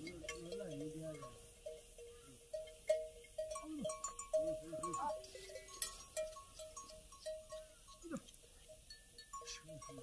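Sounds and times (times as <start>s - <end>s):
animal bells clinking: 0.0s - 10.0s.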